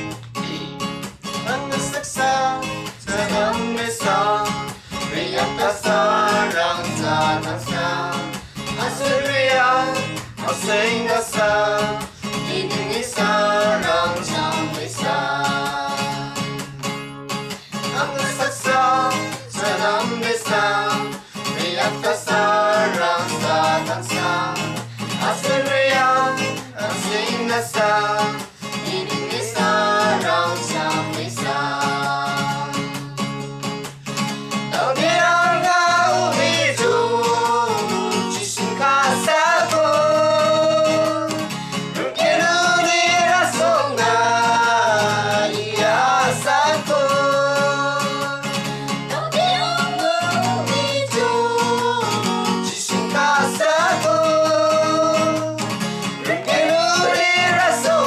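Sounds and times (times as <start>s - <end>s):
group singing: 0.0s - 16.8s, 17.5s - 33.4s, 34.2s - 58.0s
strummed acoustic guitar: 0.0s - 58.0s.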